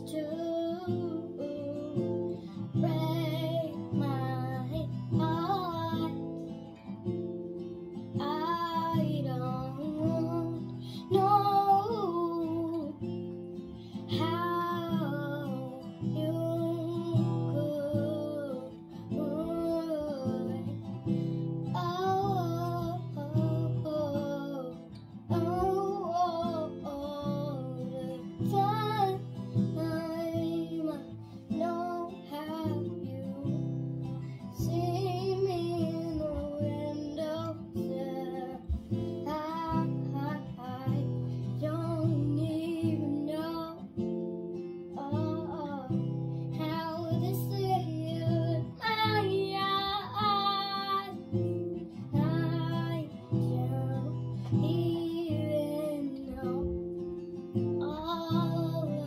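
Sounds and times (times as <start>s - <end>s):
acoustic guitar: 0.0s - 59.0s
girl singing: 0.0s - 59.0s.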